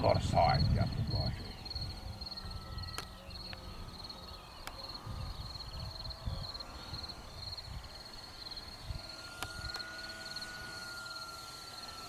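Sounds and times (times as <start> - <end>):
wind rumbling on microphone: 0.0 - 11.0
insects trilling: 0.0 - 12.0.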